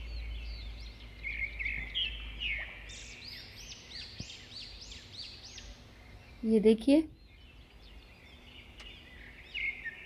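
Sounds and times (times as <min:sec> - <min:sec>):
low steady hum: 0:00.0 - 0:10.0
small birds chirping: 0:00.0 - 0:10.0.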